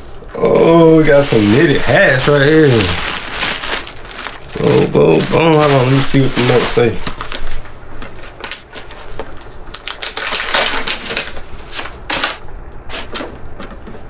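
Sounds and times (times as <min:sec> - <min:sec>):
paper rustling and crinkling: 0:00.8 - 0:13.4.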